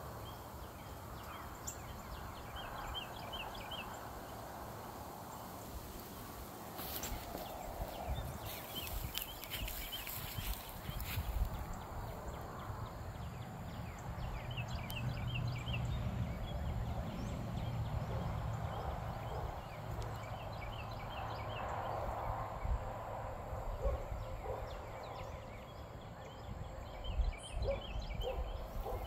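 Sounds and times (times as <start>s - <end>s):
small birds chirping: 0.0s - 22.8s, 23.7s - 29.0s.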